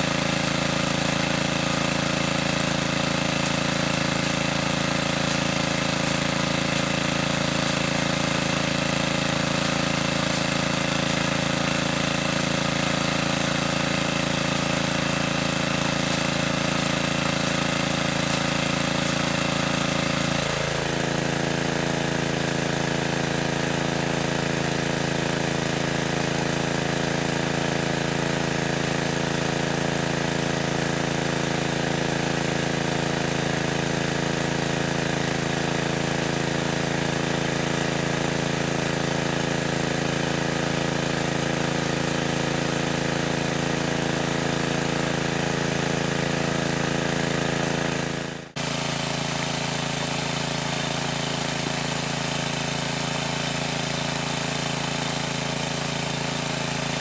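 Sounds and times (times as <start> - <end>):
motor running steadily: 0.0 - 57.0.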